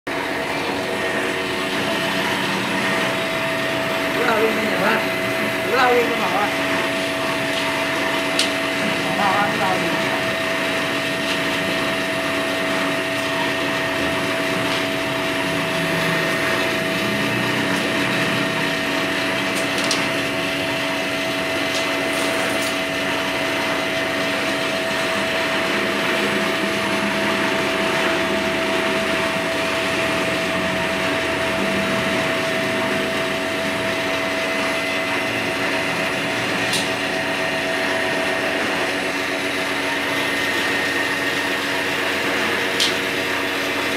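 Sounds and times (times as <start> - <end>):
machine motor whining: 0.2 - 43.8.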